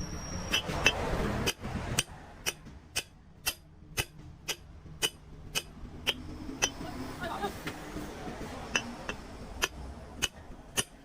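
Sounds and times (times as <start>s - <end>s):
mechanical ticking: 0.0s - 6.9s, 7.9s - 11.0s.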